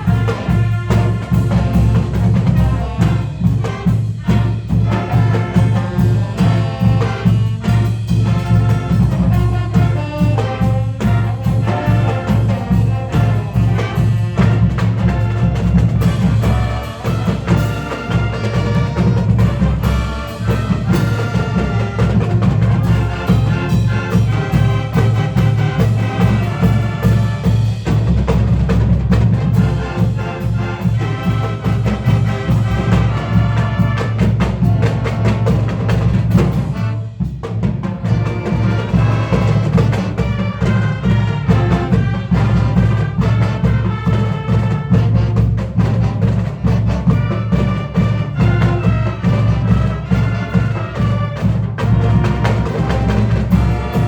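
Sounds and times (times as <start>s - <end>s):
brass: 0.0s - 54.0s
drums and percussion: 0.0s - 54.0s
marching band playing: 0.0s - 54.0s.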